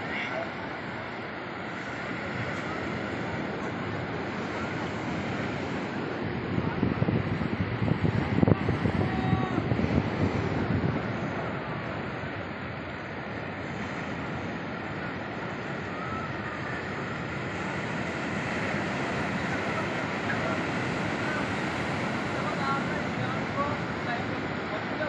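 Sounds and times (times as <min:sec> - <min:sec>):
surf breaking on beach: 0:00.0 - 0:25.0.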